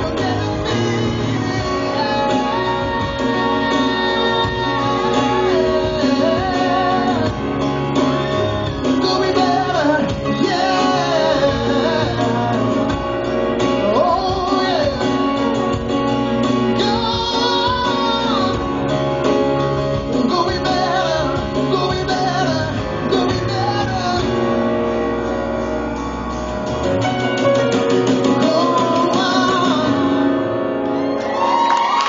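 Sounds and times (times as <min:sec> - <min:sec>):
electric bass: 0:00.0 - 0:31.7
acoustic guitar: 0:00.0 - 0:32.0.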